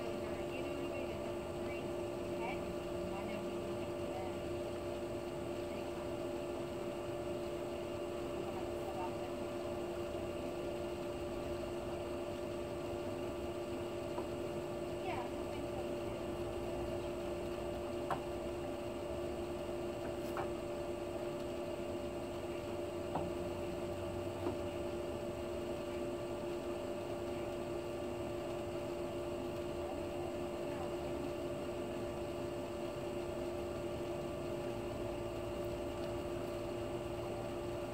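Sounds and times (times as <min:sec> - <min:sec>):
pool filter pump humming: 0:00.0 - 0:37.9.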